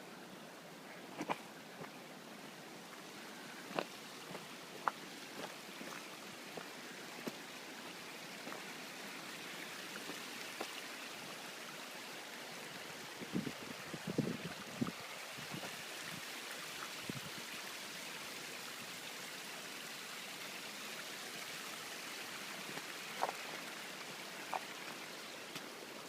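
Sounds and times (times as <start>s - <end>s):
brook water running: 0.0s - 26.0s.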